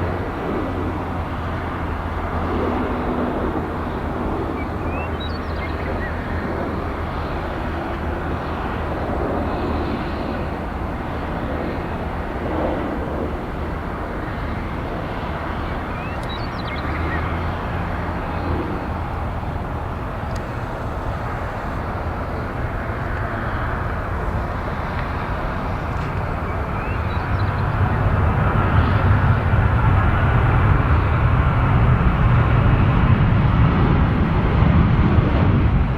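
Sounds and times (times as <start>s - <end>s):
jet engine rumble: 0.0s - 35.9s.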